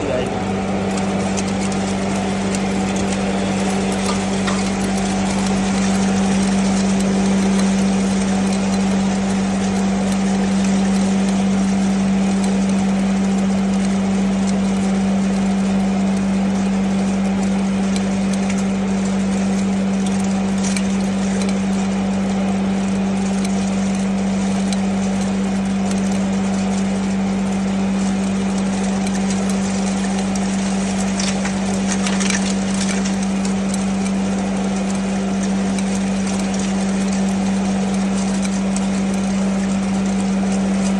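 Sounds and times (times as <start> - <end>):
grinding machine running: 0.0 - 40.9
sharp crackles: 0.0 - 40.9.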